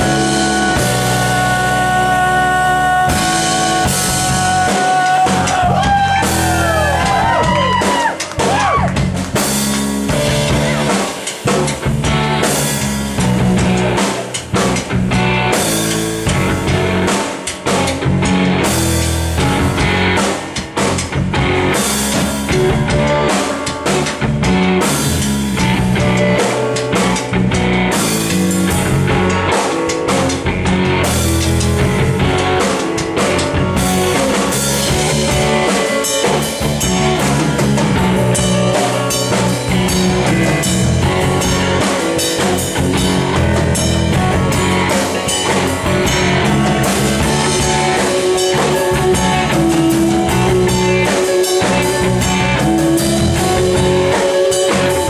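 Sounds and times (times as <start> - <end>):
drum kit: 0.0 - 55.0
guitar: 0.0 - 55.0
live rock band playing: 0.0 - 55.0.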